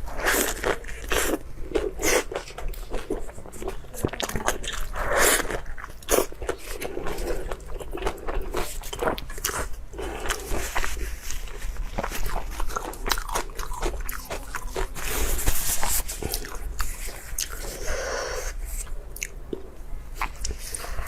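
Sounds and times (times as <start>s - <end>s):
biting and chewing: 0.1s - 17.7s.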